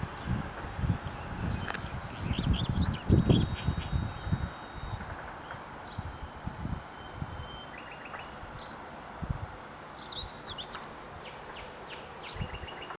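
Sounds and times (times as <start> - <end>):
outdoor background hiss: 0.0 - 13.0
small birds chirping: 0.1 - 13.0.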